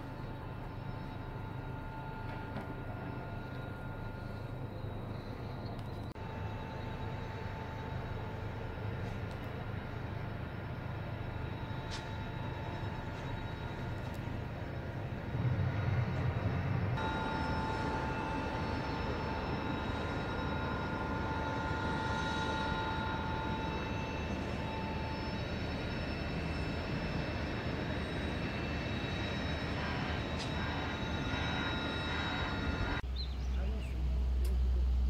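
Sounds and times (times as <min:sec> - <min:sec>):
crane drives humming: 0:00.0 - 0:35.0
high whine: 0:00.0 - 0:35.0.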